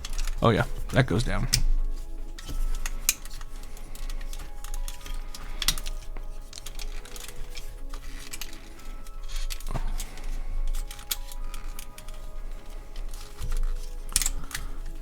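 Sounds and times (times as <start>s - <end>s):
background music: 0.0s - 15.0s
plastic toy parts clicking: 0.0s - 15.0s.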